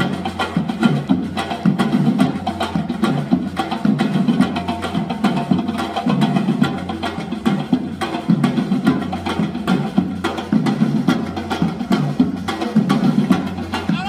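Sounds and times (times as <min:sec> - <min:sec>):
drums in fast rhythm: 0:00.0 - 0:14.0.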